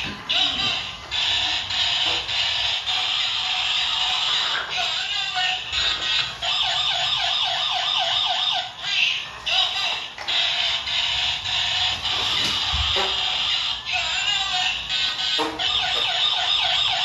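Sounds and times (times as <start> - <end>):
toy police car electronic siren: 0.3 - 17.0.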